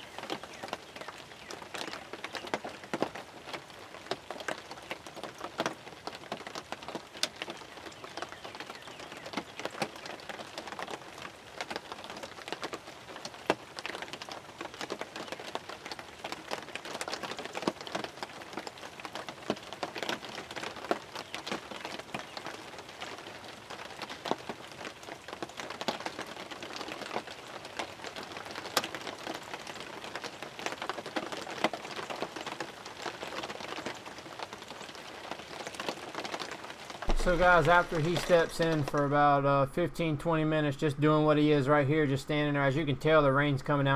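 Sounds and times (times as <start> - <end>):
raindrops tapping on fabric: 0.0 - 39.2
hard rain: 0.0 - 39.8.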